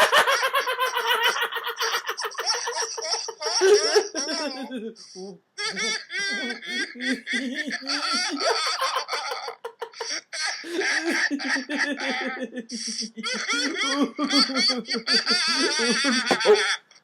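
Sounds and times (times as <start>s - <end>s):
person laughing: 0.0s - 16.9s.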